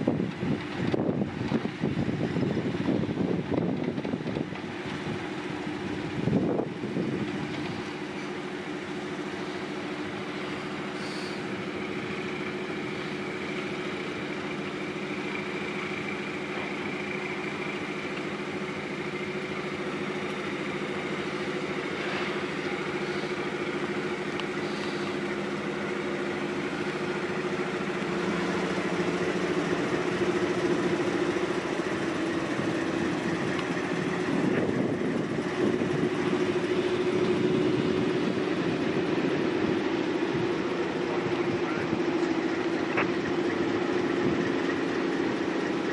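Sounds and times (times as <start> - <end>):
diesel locomotive engine running: 0.0 - 45.9.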